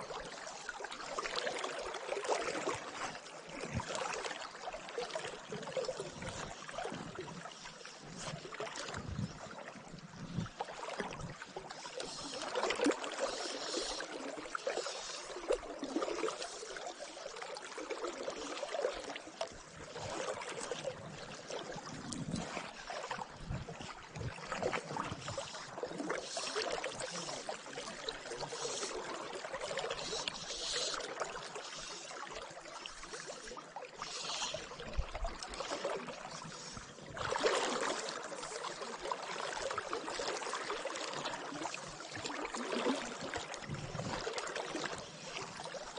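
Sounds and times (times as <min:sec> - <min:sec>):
river water flowing and sloshing: 0:00.0 - 0:45.9
small water splashes: 0:00.0 - 0:45.9.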